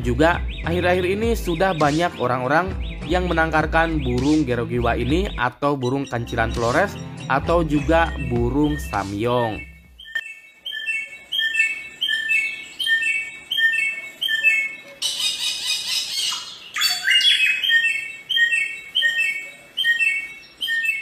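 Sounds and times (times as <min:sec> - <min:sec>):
bird whistling notes: 0:00.0 - 0:21.0.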